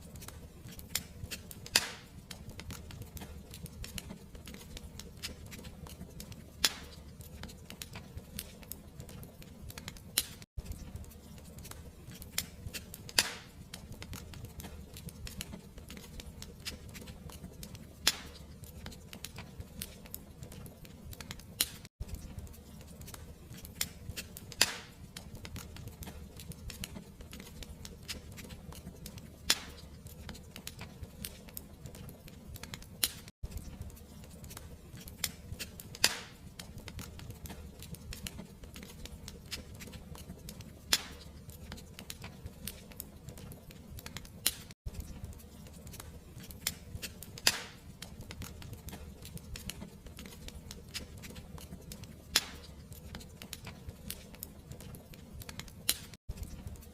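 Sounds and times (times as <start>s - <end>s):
fireplace fire crackling: 0.0s - 56.9s.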